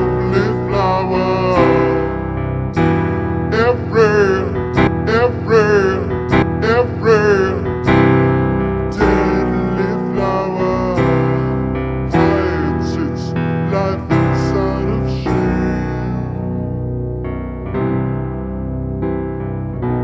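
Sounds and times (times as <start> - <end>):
slowed-down keyboard song: 0.0 - 20.0.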